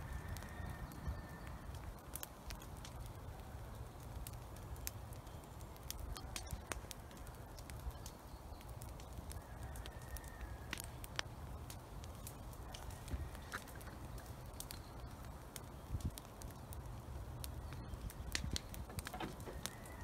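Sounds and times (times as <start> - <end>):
brush fire crackling: 0.0 - 20.0
sharp pops from fire: 0.0 - 20.0.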